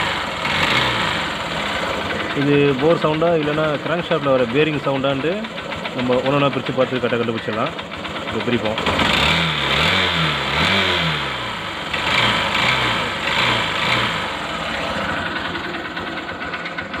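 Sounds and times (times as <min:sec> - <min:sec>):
abnormal mechanical engine noise: 0:00.0 - 0:17.0
motorcycle engine revving and idling: 0:00.0 - 0:17.0.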